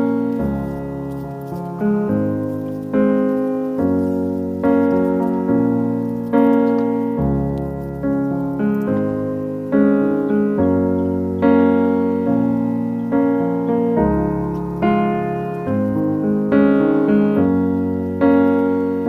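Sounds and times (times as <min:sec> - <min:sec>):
piano playing chords: 0:00.0 - 0:19.0.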